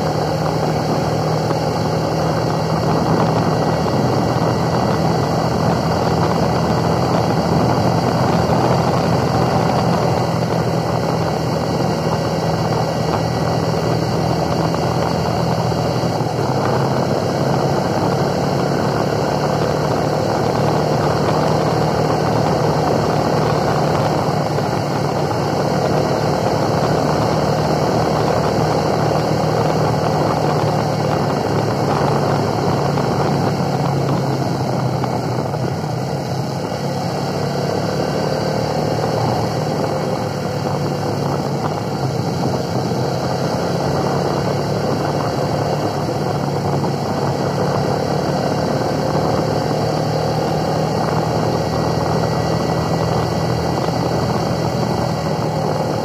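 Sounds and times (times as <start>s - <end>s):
broad rushing noise: 0.0s - 56.0s
motorcycle engine running: 0.0s - 56.0s.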